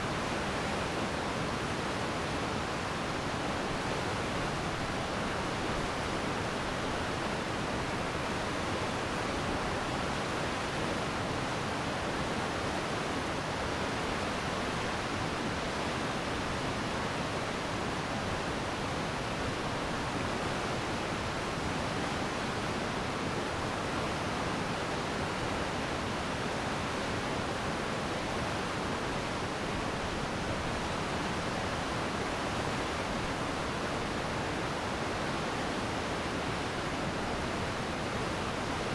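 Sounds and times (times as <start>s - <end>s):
stream flowing: 0.1s - 38.9s.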